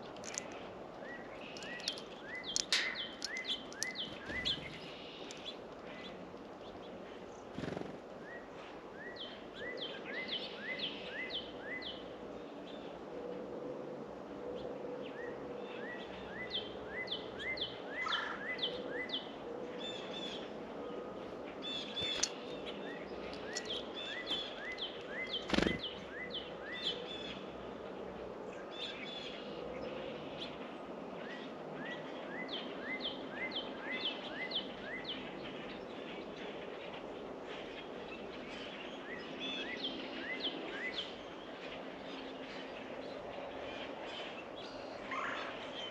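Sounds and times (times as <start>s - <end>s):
outdoor background hiss: 0.0s - 45.9s
songbirds chirping: 0.0s - 45.9s.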